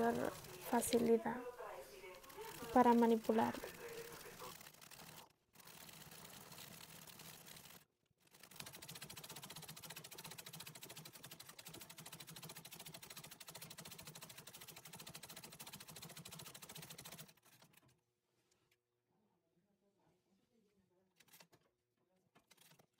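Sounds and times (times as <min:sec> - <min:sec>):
treadle sewing machine stitching: 0:00.0 - 0:18.0, 0:22.4 - 0:22.9.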